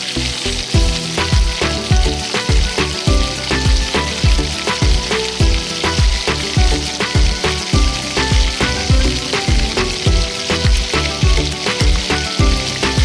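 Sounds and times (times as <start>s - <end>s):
background music with beat: 0.0s - 13.0s
vegetables sizzling in pot: 0.0s - 13.0s.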